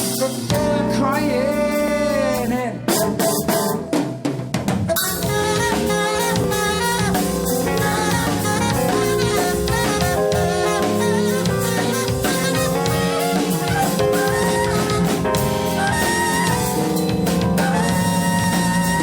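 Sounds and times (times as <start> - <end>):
live band playing: 0.0 - 19.0
drum fill: 2.9 - 19.0.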